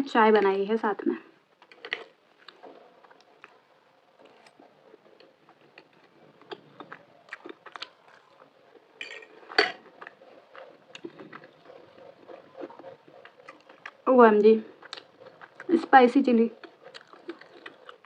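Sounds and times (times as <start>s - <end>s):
chewing and biting food: 1.6s - 18.0s.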